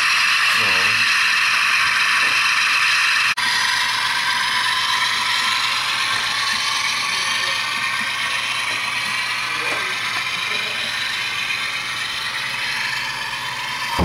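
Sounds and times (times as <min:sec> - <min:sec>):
model train motors whirring: 0:00.0 - 0:14.0.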